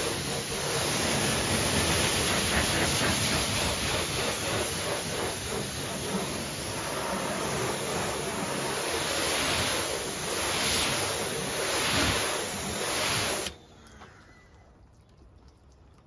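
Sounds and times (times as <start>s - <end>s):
pressure washer spraying water: 0.0s - 13.6s.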